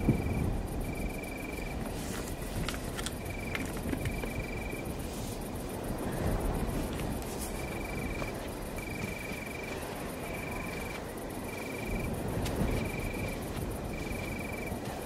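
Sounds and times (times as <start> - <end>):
cricket trilling: 0.0 - 15.0
low rustling noise: 0.0 - 15.0.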